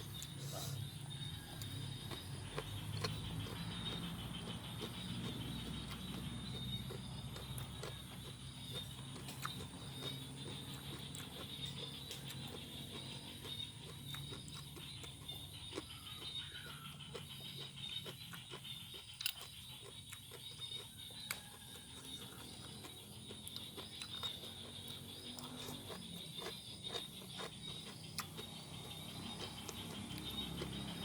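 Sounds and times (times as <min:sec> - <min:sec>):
chewing crunchy vegetables: 0:00.0 - 0:31.0.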